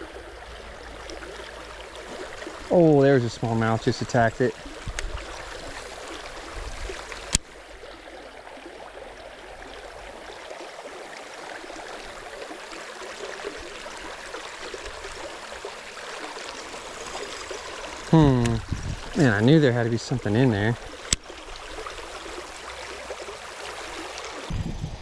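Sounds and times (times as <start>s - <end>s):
creek water running: 0.0s - 24.6s.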